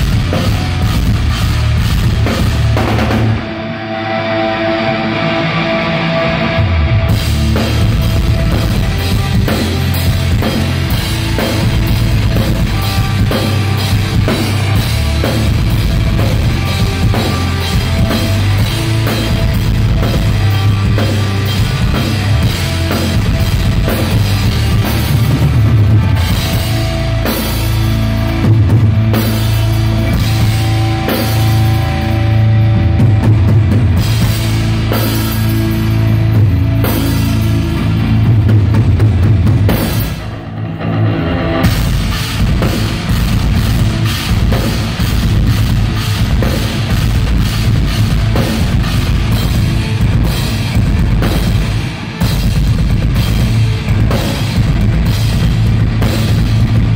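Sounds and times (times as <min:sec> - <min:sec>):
bass guitar: 0:00.0 - 0:56.9
drum kit: 0:00.0 - 0:56.9
heavy metal band playing: 0:00.0 - 0:56.9.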